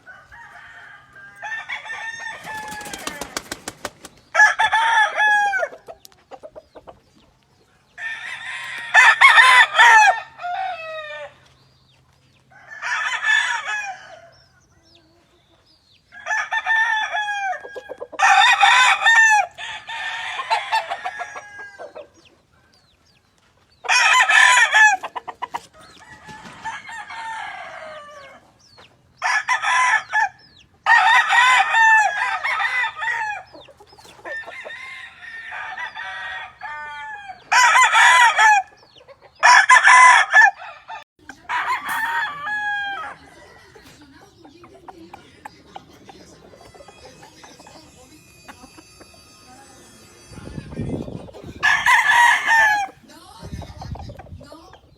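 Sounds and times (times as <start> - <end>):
roosters crowing: 0.0 - 7.0, 7.7 - 54.7.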